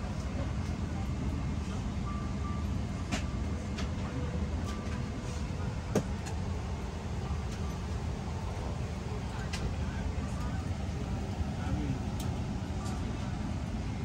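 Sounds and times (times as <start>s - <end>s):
cabin air hum: 0.0s - 14.0s.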